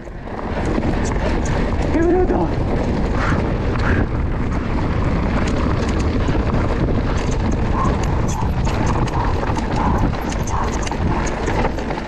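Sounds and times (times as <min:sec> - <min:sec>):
bike clattering over stones: 0:00.0 - 0:12.0
wind buffeting microphone: 0:00.0 - 0:12.0.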